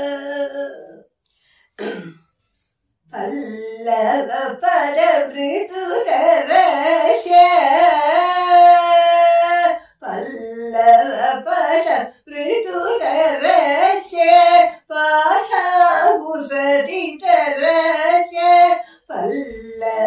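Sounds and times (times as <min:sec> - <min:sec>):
woman singing classical vocals: 0:00.0 - 0:01.0, 0:03.1 - 0:20.0.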